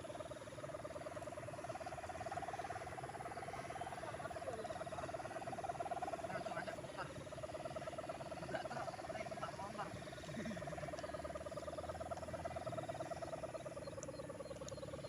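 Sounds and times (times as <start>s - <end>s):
kite hummer droning: 0.0s - 15.0s.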